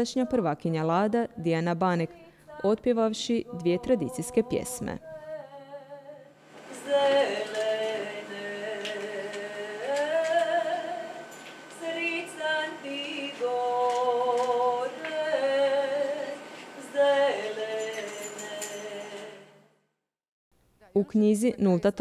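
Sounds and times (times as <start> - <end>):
woman singing unaccompanied: 0.0 - 19.6.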